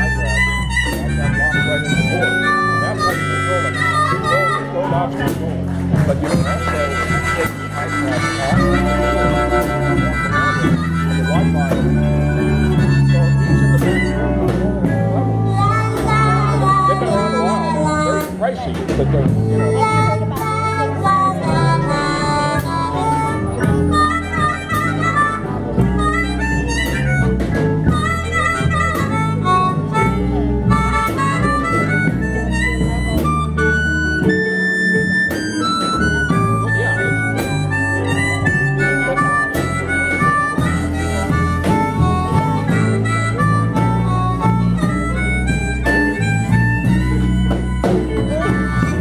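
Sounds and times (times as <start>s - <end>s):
guitar: 0.0s - 49.0s
harmonica: 0.0s - 49.0s
low bass notes: 0.0s - 49.0s.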